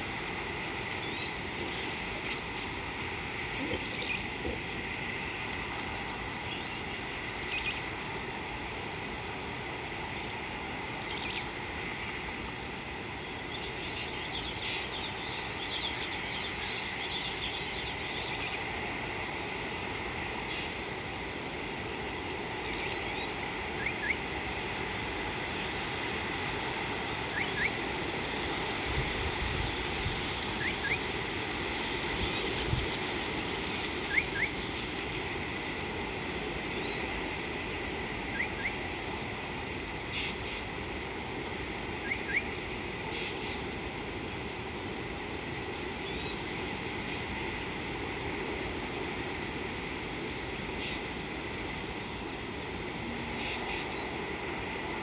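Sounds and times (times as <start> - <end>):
high insect drone: 0.0 - 55.0
insects chirping: 0.0 - 55.0
short rising insect calls: 0.0 - 55.0.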